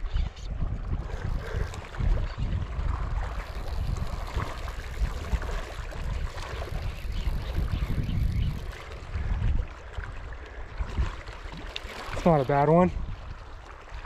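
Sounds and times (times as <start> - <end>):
wind buffeting microphone: 0.0 - 14.0
lake water lapping: 0.7 - 14.0.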